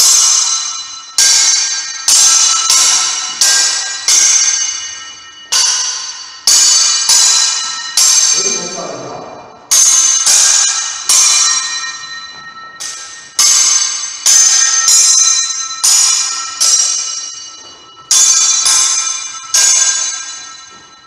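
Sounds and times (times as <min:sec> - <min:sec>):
swords clashing with ringing tone: 0:00.0 - 0:21.0.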